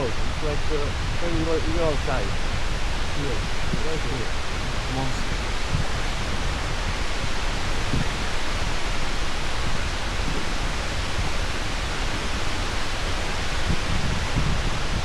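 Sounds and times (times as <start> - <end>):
deep rumble: 0.0 - 15.0
water rushing around a boat: 0.0 - 15.0
wind rushing: 0.0 - 15.0.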